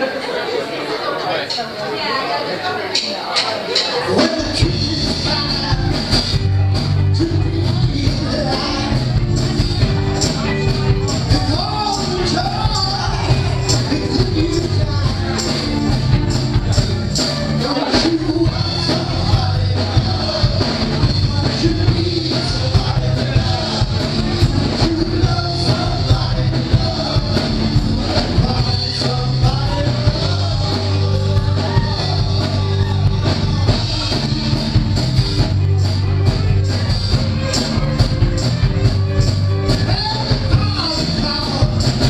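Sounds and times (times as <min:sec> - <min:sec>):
drum beat: 0:03.4 - 0:42.0
person singing: 0:04.0 - 0:42.0
bass guitar: 0:04.1 - 0:42.0.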